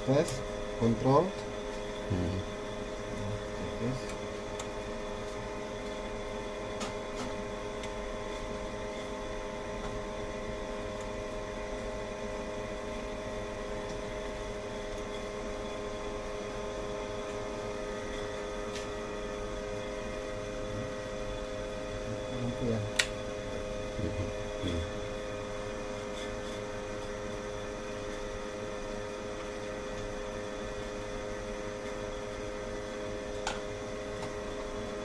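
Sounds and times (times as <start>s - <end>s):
electrical hum with held tones: 0.0s - 35.0s.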